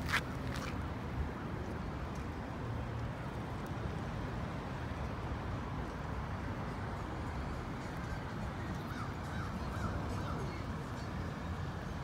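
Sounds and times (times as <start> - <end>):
low urban background rumble: 0.2 - 12.0.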